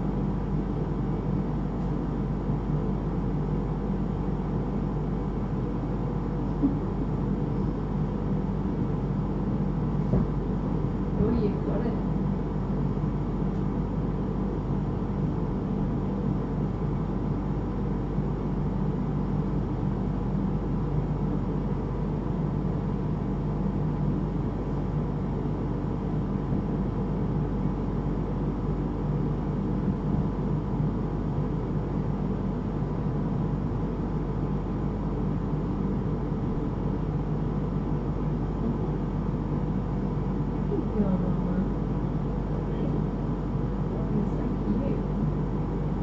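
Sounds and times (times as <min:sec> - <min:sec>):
low drone and hiss: 0:00.0 - 0:46.0.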